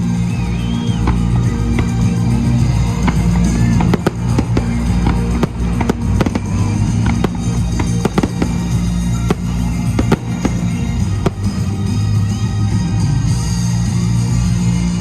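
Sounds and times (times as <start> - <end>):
music with bass line: 0.0 - 15.0
fireworks bangs: 0.4 - 13.0.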